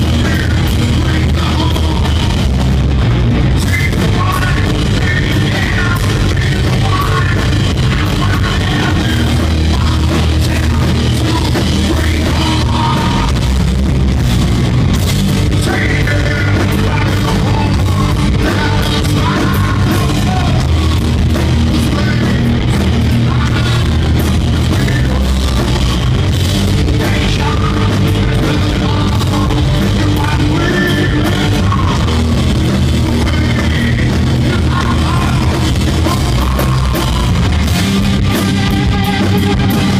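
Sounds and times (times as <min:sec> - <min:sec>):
person singing into a microphone: 0:00.0 - 0:02.5, 0:03.6 - 0:13.4, 0:15.5 - 0:26.2, 0:26.8 - 0:37.6
bass guitar: 0:00.0 - 0:39.9
drum kit: 0:00.0 - 0:39.9
electric guitar: 0:00.0 - 0:39.9.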